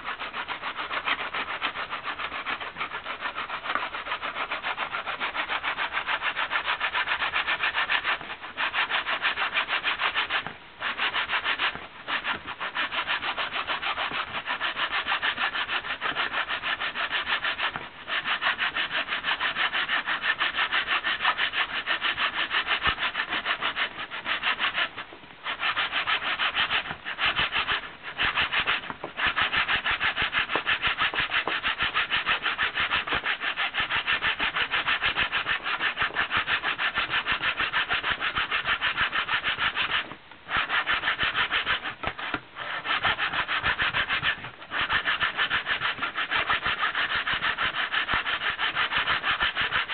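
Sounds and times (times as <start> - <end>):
dry rasping scrape: 0.0 - 49.9.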